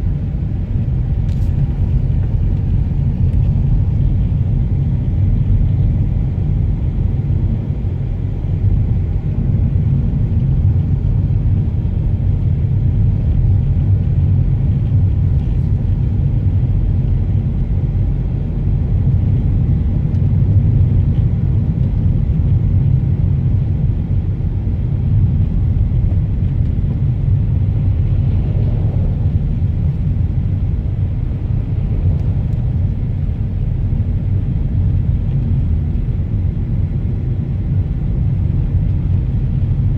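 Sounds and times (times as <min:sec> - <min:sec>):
car driving with tyre noise: 0:00.0 - 0:39.9.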